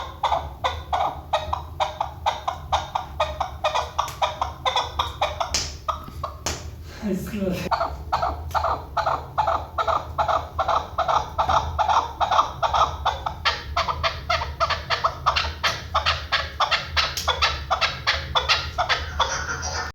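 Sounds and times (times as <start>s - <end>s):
partridge clucking call: 0.0s - 6.7s, 7.7s - 19.9s.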